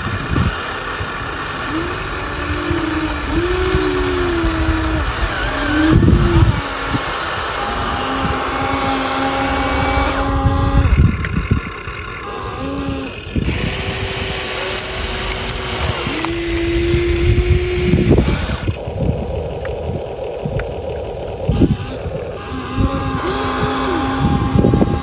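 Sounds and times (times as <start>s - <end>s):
small electric motors whining: 0.0s - 25.0s.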